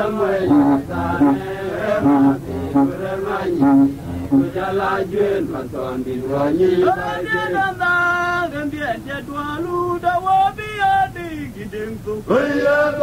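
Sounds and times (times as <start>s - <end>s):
man singing a chant: 0.0s - 13.0s.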